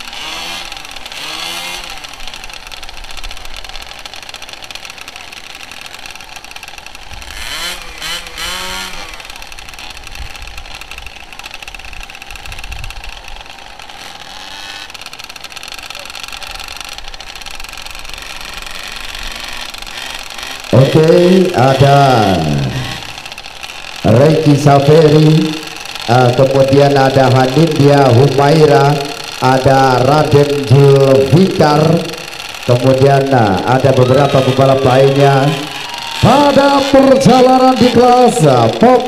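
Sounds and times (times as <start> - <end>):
engine revving bursts: 0.0 - 39.0
small motorbike engines idling: 0.0 - 39.0.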